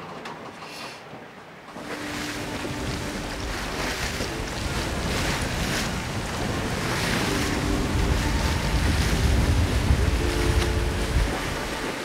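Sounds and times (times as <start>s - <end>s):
water rushing past hulls: 1.0s - 12.0s
wind buffeting microphone: 1.8s - 12.0s.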